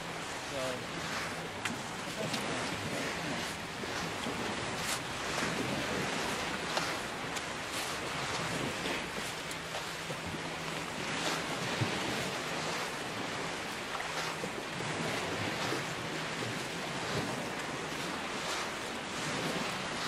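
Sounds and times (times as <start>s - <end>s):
waves hissing on beach: 0.0s - 20.0s
wind buffeting microphone: 0.0s - 20.0s.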